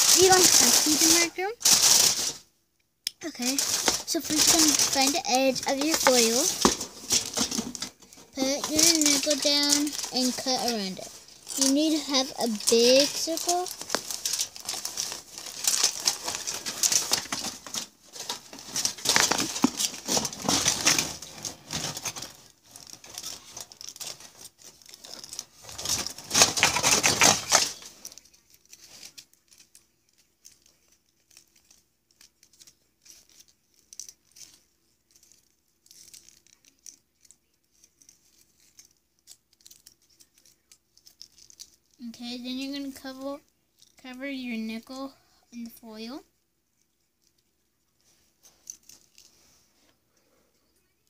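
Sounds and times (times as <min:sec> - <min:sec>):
aluminium foil crinkling: 0:00.0 - 0:02.5, 0:03.2 - 0:51.0.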